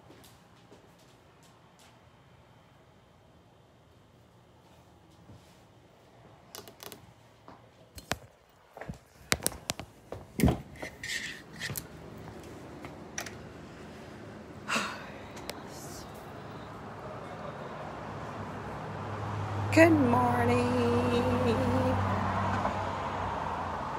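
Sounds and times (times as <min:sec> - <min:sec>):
steady background noise: 0:00.0 - 0:23.9.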